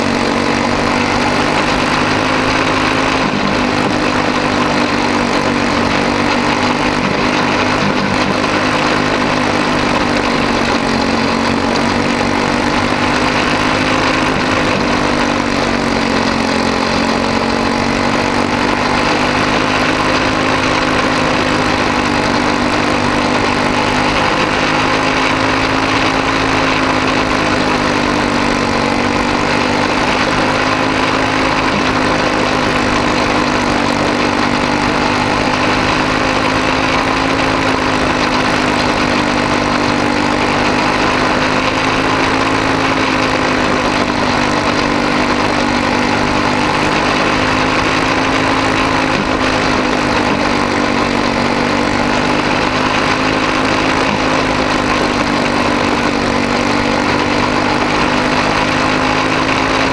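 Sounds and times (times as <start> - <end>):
small racing engine at high revs: 0.0 - 59.9.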